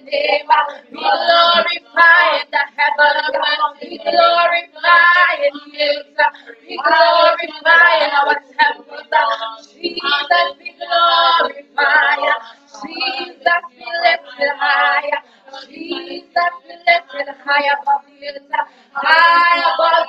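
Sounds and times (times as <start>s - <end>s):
woman singing worship song: 0.0s - 20.0s.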